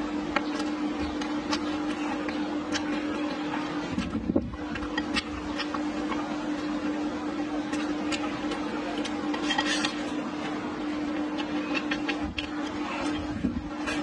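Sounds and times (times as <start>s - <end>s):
low electrical hum: 0.0s - 14.0s
noodles slurped and chewed: 0.0s - 14.0s.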